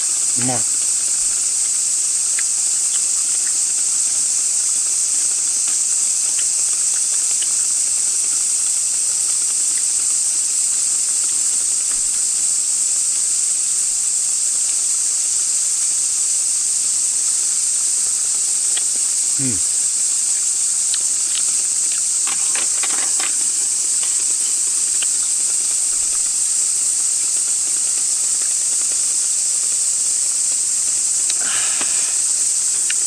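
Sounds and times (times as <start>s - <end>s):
faint ticks: 0.0s - 14.7s, 17.0s - 33.0s
cicadas droning: 0.0s - 33.0s.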